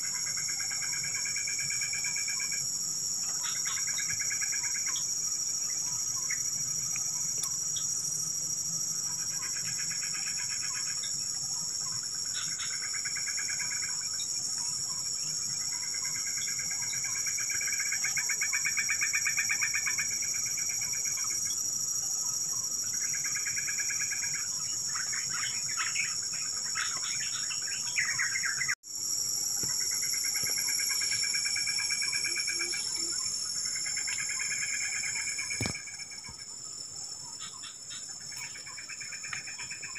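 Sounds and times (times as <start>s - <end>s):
high-pitched insect chorus: 0.0s - 39.9s
trilling insect calls: 0.0s - 39.9s.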